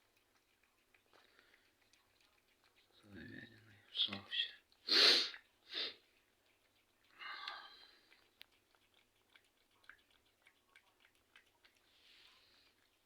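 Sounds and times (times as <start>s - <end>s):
cat chewing and licking food: 0.0s - 13.0s.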